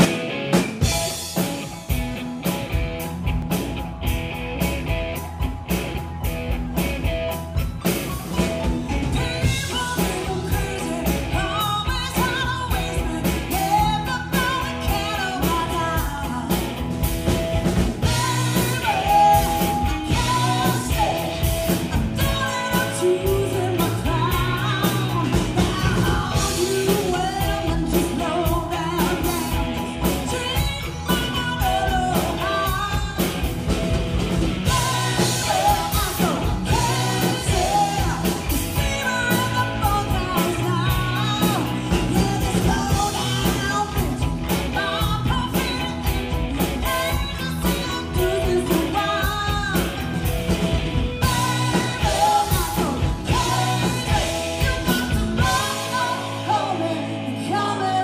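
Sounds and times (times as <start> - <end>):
drum kit: 0.0 - 57.4
bass guitar: 0.0 - 58.0
electric guitar: 0.0 - 58.0
keyboard: 0.0 - 58.0
woman singing lead vocal: 8.6 - 17.0, 17.7 - 33.8, 34.6 - 58.0.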